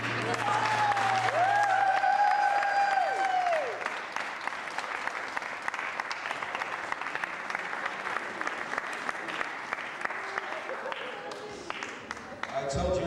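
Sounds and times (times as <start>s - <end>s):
crowd clapping: 0.0s - 13.0s.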